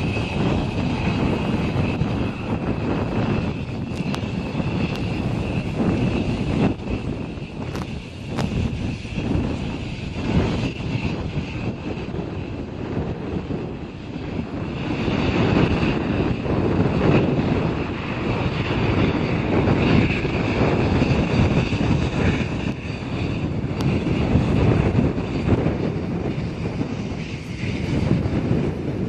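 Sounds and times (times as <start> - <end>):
jet engines rumbling and whining: 0.0 - 29.0.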